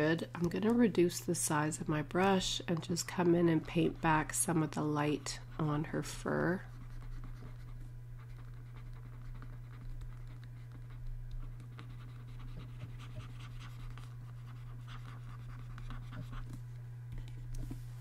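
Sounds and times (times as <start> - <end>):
low electrical hum: 0.0 - 18.0
stylus scratching on tablet: 1.8 - 16.6.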